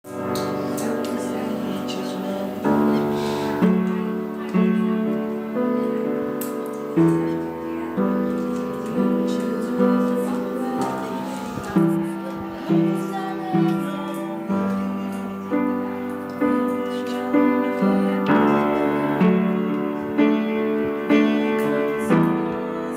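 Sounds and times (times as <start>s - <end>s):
slow piano music: 0.0s - 22.9s.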